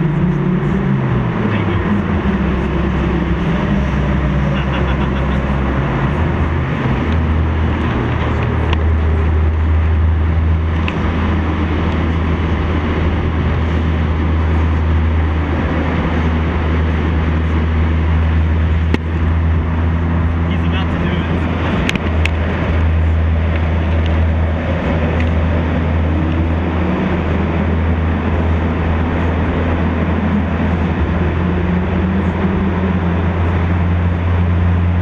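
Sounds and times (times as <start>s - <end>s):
car engine drone: 0.0s - 35.0s
tyre and road noise: 0.0s - 35.0s.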